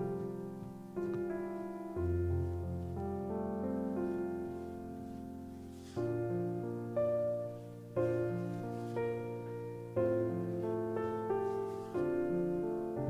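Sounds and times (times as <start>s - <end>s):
gentle slow piano music: 0.0s - 13.0s.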